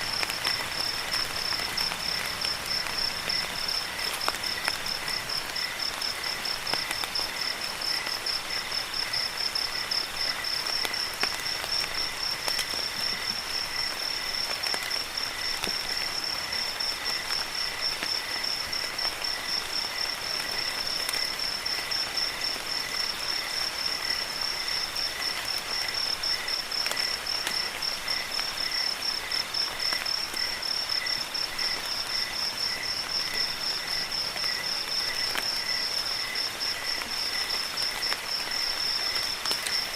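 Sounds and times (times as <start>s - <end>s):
crickets chirping: 0.0s - 39.9s
rain falling: 0.0s - 39.9s.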